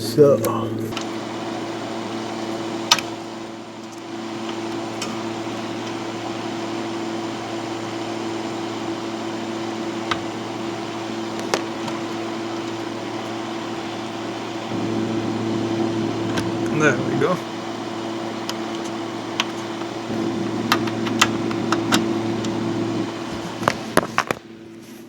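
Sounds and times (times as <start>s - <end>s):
cooling fan humming: 0.0s - 25.0s.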